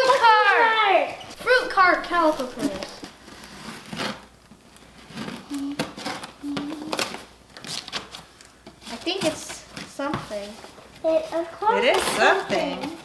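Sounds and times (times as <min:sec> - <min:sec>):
plastic wrap and cardboard rustling: 0:01.2 - 0:13.0.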